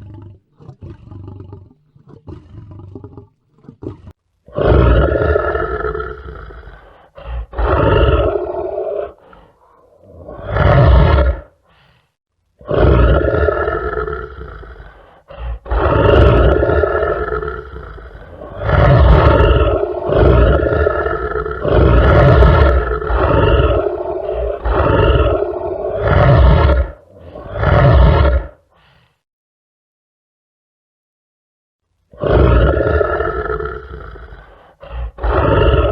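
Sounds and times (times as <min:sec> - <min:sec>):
lion roaring: 0:00.0 - 0:11.6, 0:12.6 - 0:28.6, 0:32.1 - 0:35.9.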